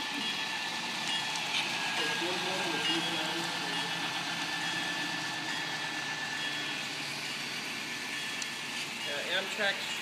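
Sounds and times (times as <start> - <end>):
model train running: 0.0 - 10.0.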